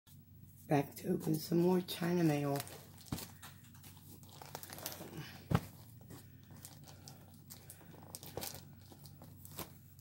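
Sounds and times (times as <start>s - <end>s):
plastic packaging crinkling: 2.0s - 10.0s.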